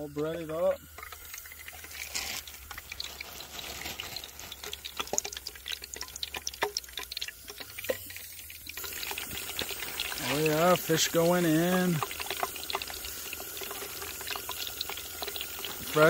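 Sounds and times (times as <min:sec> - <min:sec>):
fish sizzling in frying oil: 0:00.0 - 0:16.0.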